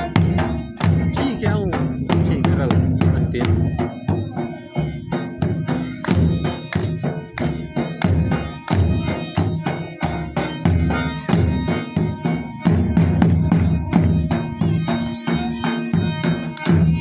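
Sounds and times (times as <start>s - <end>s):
drum beating: 0.0s - 17.0s
held melody line: 0.0s - 17.0s.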